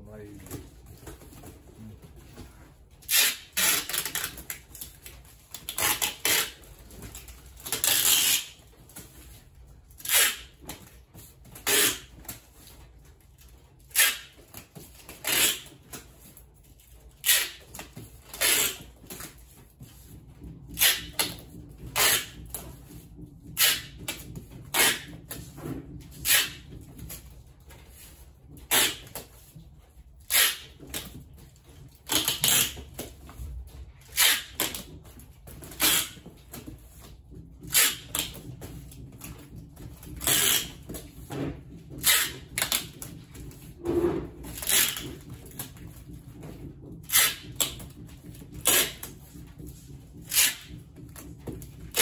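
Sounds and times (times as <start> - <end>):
rustling of wrapping: 0.0 - 52.0
tape rasping: 0.4 - 52.0.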